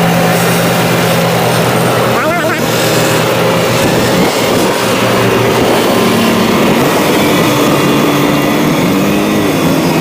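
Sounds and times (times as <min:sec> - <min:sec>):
diesel engines running: 0:00.0 - 0:10.0
machines crawling on tracks: 0:00.0 - 0:10.0.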